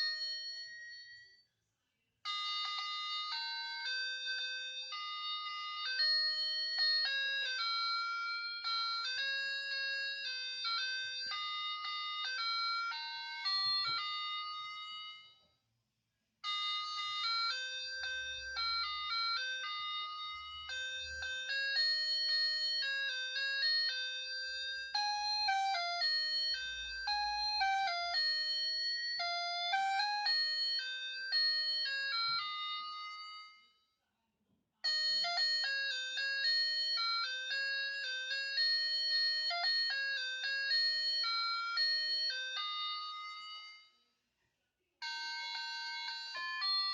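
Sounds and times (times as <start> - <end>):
toy beeping melodies: 2.2 - 15.6, 16.4 - 33.9, 34.8 - 44.1, 45.0 - 46.9.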